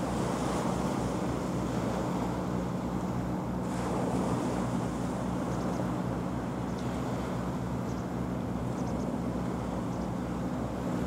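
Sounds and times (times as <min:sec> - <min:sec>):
boat engine low drone: 0:00.0 - 0:11.0
choppy water: 0:00.0 - 0:11.0
wind: 0:00.0 - 0:11.0.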